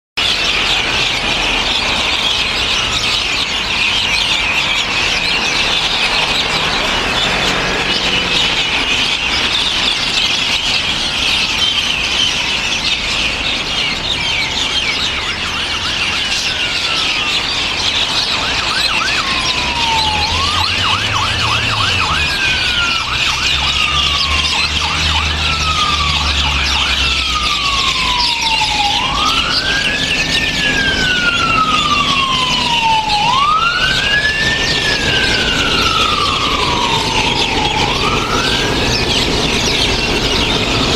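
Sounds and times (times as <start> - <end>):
emergency siren wailing: 0.2 - 40.9
flock of birds chattering: 0.2 - 40.9.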